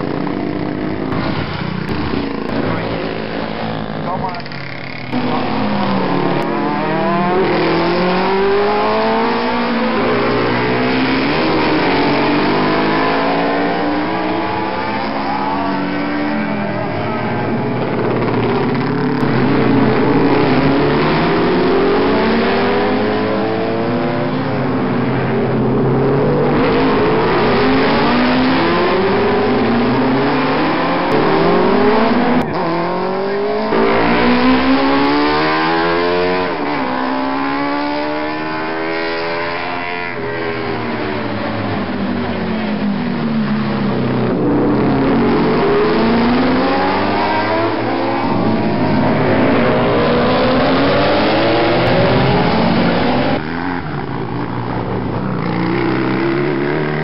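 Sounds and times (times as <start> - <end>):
racing motorcycles passing: 0.0 - 57.0.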